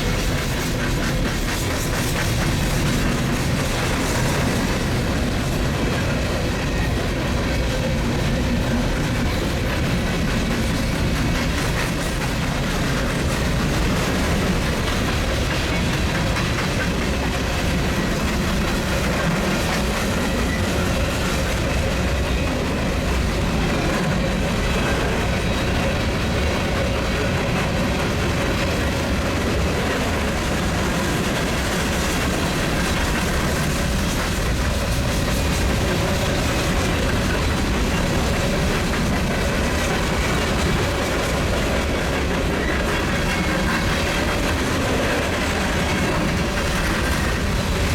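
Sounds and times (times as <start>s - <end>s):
train wheels on rails: 0.0s - 47.9s
wheels clicking over rail joints: 0.0s - 47.9s.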